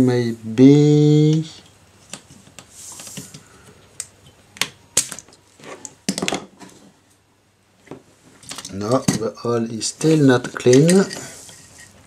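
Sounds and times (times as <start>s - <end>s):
soft hiss: 0.0s - 6.0s, 6.6s - 12.0s.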